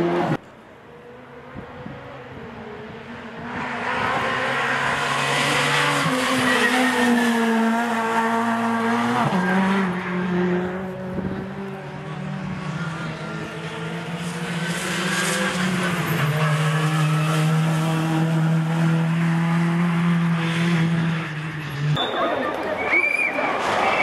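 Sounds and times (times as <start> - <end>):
rally car engine at high revs: 0.0 - 0.4, 1.2 - 22.0.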